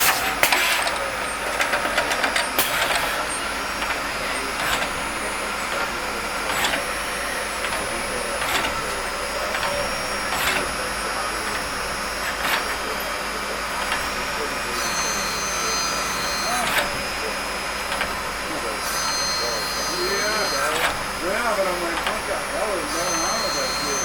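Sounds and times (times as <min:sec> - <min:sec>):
machine high whine: 0:00.0 - 0:24.0.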